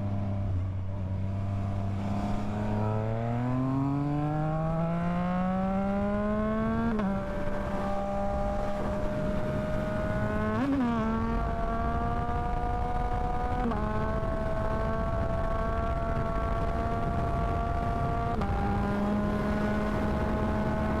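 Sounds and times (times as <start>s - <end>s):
wind noise: 1.7s - 21.0s.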